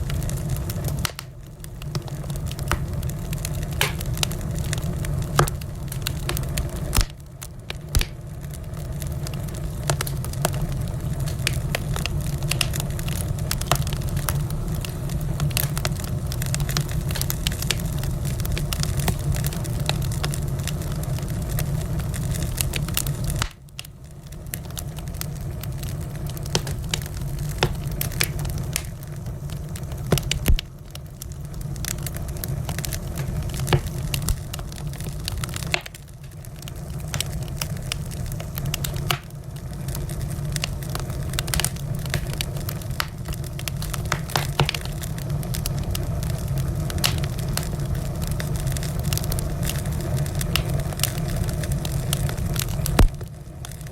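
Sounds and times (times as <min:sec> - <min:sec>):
low fire rumble: 0:00.0 - 0:53.9
wood fire crackling and popping: 0:00.0 - 0:53.9.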